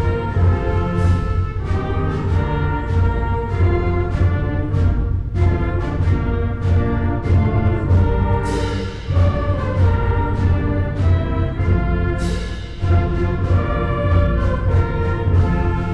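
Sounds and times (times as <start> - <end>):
brass band march: 0.0 - 15.9
steady low drum beat: 0.0 - 15.9.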